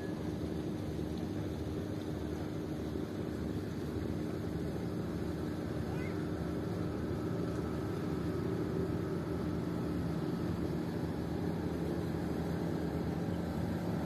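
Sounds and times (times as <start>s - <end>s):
motorboat engine humming: 0.0s - 14.0s.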